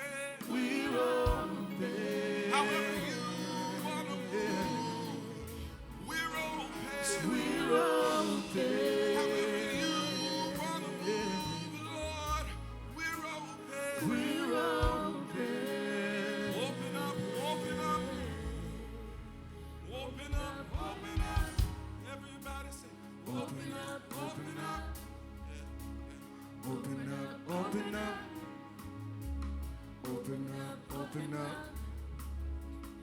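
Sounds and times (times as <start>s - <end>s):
gospel singing with band: 0.0s - 33.0s.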